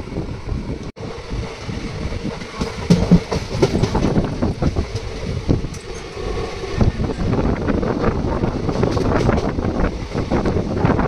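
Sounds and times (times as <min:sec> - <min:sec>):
train rumble: 0:00.0 - 0:11.0
wheels clattering on rails: 0:01.4 - 0:11.0.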